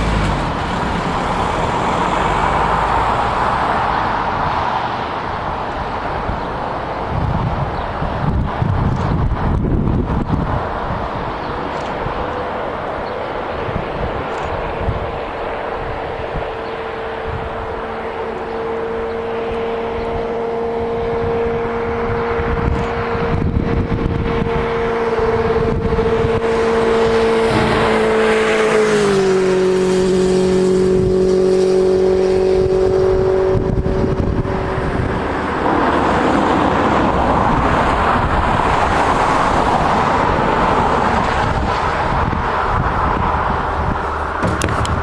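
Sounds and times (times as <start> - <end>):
car engine drone: 0.0 - 45.0
road and wind noise: 0.0 - 45.0.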